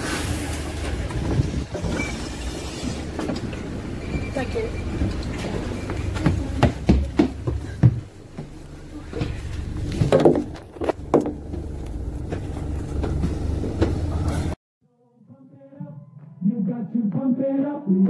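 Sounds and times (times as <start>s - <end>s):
bus engine rumble: 0.0s - 14.6s.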